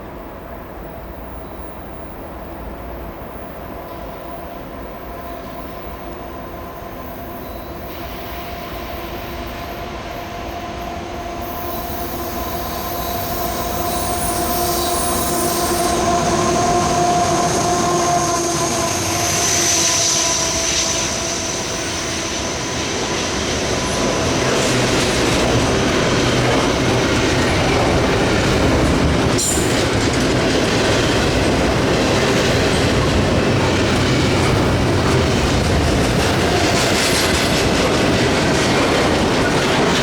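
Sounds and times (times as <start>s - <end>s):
freight train rumble: 0.0s - 40.0s
steel wheels squealing: 5.1s - 40.0s.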